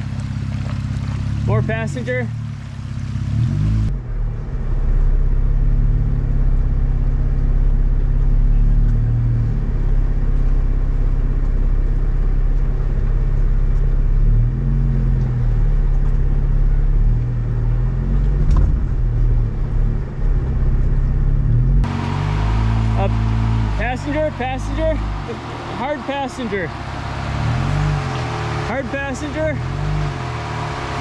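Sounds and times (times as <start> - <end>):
car engine at low revs: 0.0 - 31.0.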